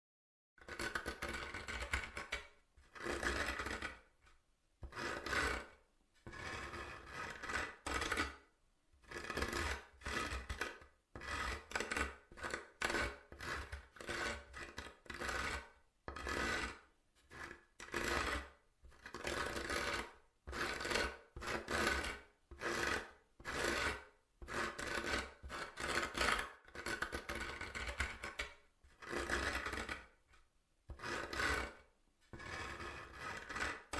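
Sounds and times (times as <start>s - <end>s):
fingernails scratching wood: 0.6s - 4.1s, 4.8s - 8.5s, 9.1s - 30.2s, 30.9s - 33.9s.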